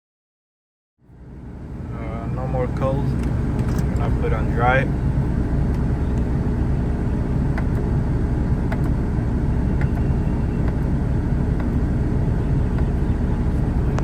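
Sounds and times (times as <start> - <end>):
car engine idling: 1.0 - 14.0.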